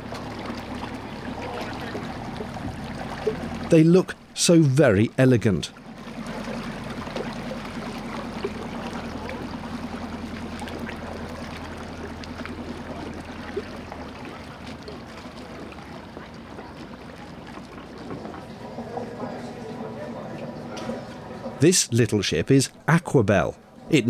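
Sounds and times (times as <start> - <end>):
boat engine throbbing: 0.0 - 24.0
water lapping at hull: 0.0 - 24.0.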